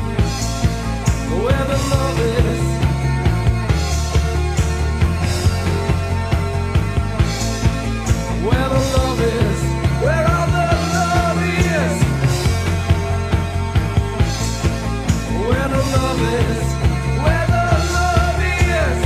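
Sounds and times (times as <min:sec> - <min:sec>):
held bass notes: 0:00.0 - 0:19.0.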